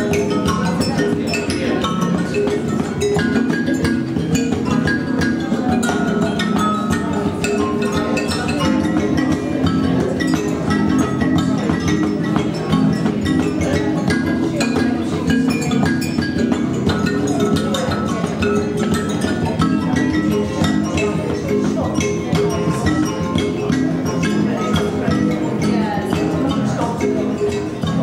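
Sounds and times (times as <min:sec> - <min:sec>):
percussion music ringing notes: 0:00.0 - 0:28.0.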